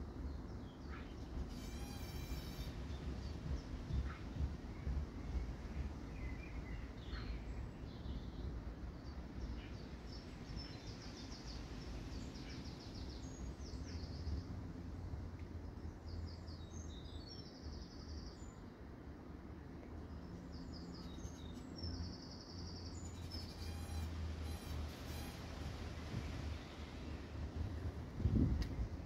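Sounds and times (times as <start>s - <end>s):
songbird singing: 0.0s - 14.8s, 15.4s - 19.0s, 19.6s - 28.9s
low background rumble: 0.0s - 29.0s.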